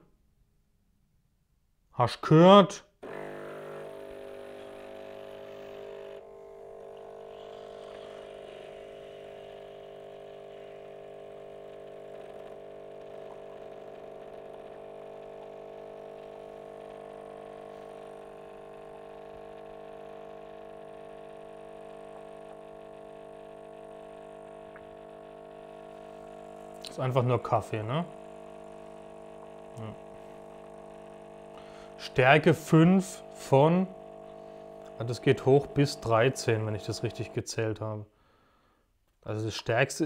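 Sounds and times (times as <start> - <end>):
coffee machine pump humming: 3.0 - 37.7.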